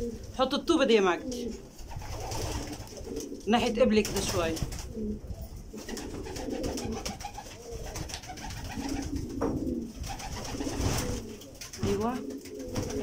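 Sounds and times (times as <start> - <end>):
pigeons cooing: 0.0 - 0.4, 1.0 - 13.0.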